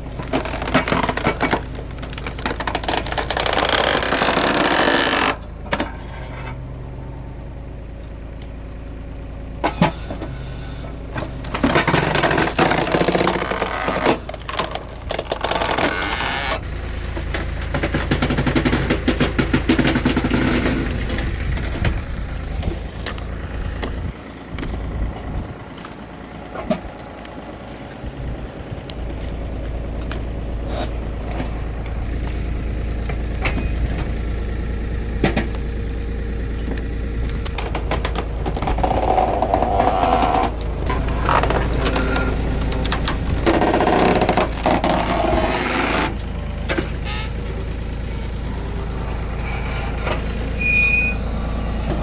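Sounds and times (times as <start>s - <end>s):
engine humming: 0.0s - 52.0s
loud mechanical noise: 0.0s - 52.0s.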